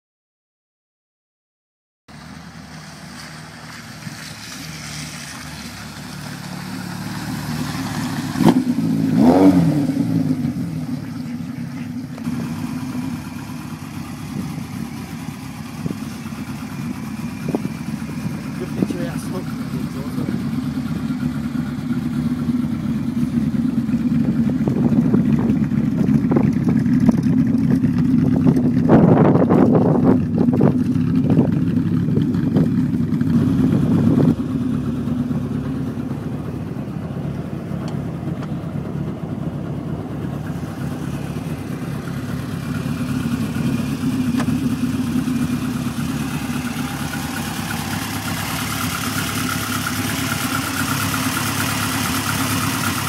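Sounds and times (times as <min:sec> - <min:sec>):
car engine idling: 0:02.1 - 0:53.0.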